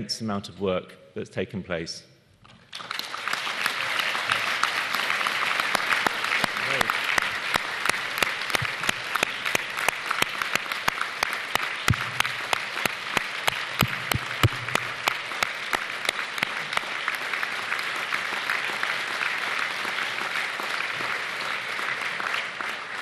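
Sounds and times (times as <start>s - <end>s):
large audience applauding: 2.6s - 23.0s
sharp hand claps close up: 2.8s - 23.0s.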